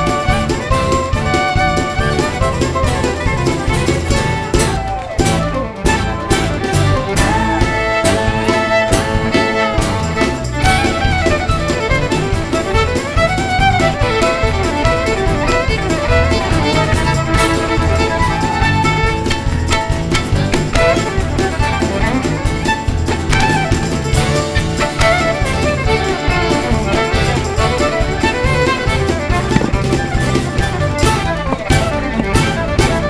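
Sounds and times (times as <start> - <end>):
fiddle with sliding bowed notes: 0.0 - 33.0
low rhythmic bass: 0.0 - 33.0.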